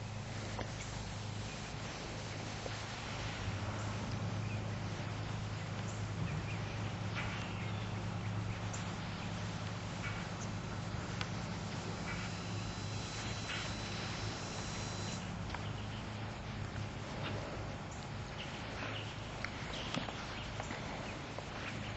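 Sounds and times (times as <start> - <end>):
steady low hum: 0.0 - 19.8
constant hiss: 0.0 - 21.9.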